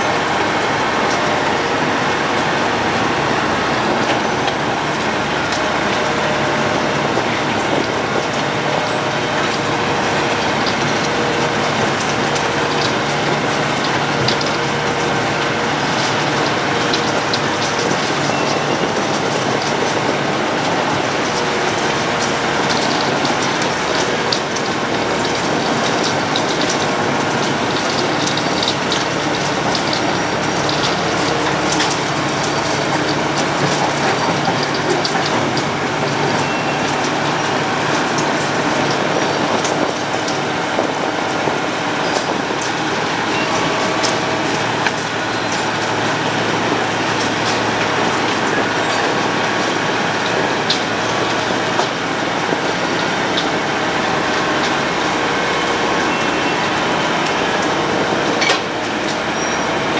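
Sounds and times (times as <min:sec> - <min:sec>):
road milling machine grinding: 0:00.0 - 0:59.9.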